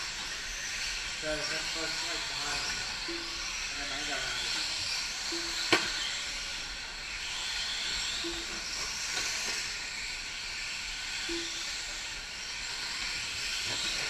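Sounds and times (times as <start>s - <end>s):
rc trucks motors whining: 0.0s - 14.0s.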